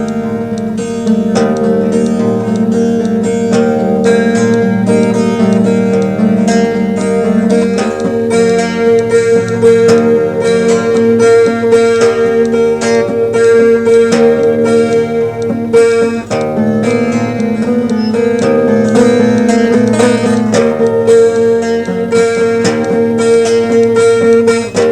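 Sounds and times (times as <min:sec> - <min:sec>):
twelve-string guitar strummed: 0:00.0 - 0:24.9.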